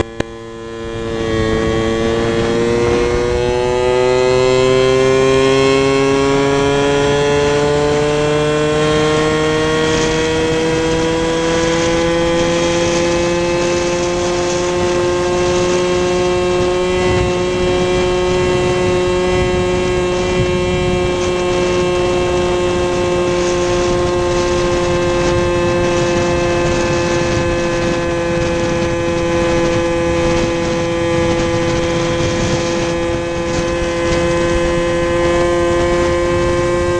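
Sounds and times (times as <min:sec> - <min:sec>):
scooter engine accelerating: 0:00.0 - 0:36.9.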